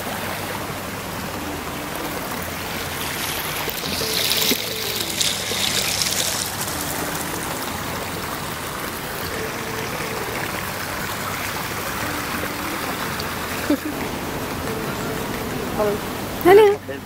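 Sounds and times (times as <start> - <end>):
water trickling and rushing: 0.0 - 17.0.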